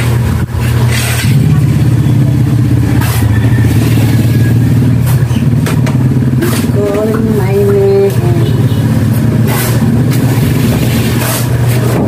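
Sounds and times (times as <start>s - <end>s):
small engine running: 0.9s - 12.0s.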